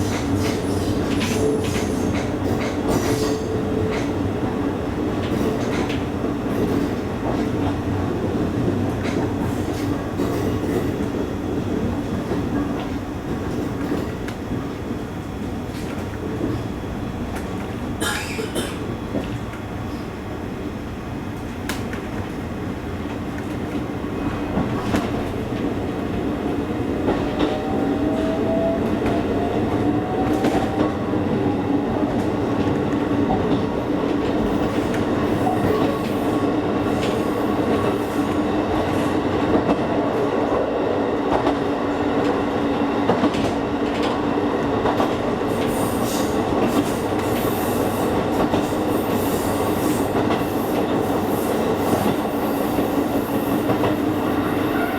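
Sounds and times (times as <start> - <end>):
train rumble and hum: 0.0 - 54.9.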